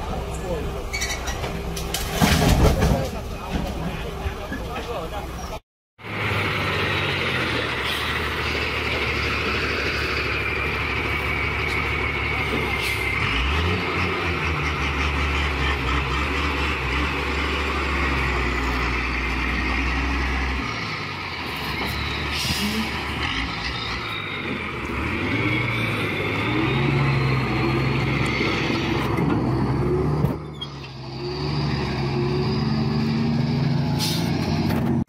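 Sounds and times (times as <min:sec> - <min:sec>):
diesel truck engine droning: 0:03.0 - 0:35.0.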